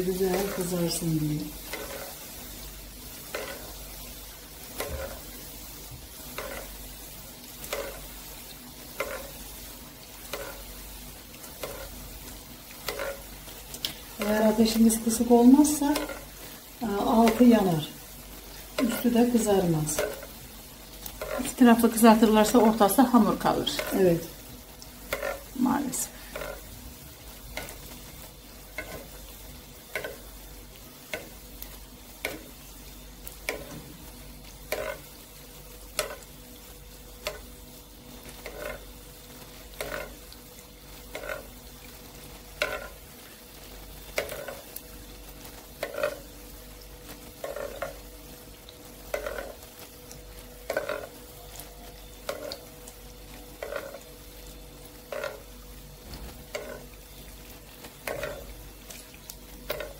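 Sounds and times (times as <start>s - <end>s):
hot oil sizzling: 0.0s - 59.9s.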